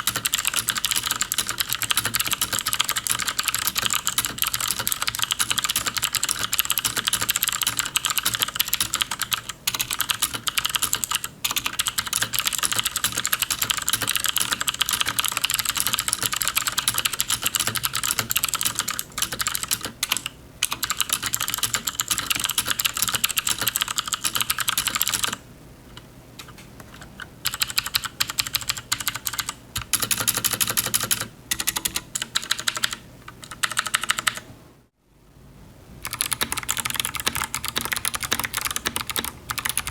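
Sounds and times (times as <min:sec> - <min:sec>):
typing on a mechanical keyboard: 0:00.0 - 0:25.4, 0:27.4 - 0:34.5, 0:36.0 - 0:39.9.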